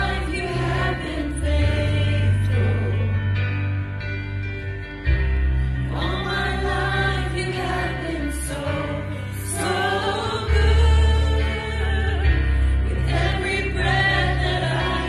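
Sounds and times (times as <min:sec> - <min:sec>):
choir singing: 0:00.0 - 0:03.5, 0:05.8 - 0:15.0.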